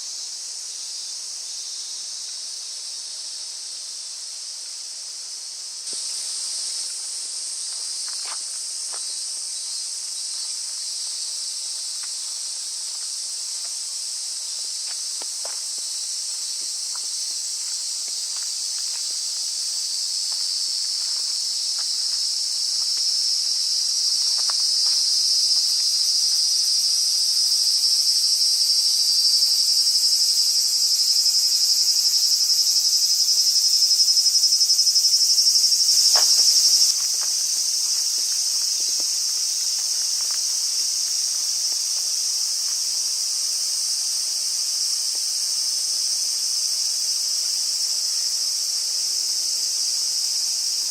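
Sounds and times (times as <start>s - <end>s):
insect chorus: 0.0s - 50.9s.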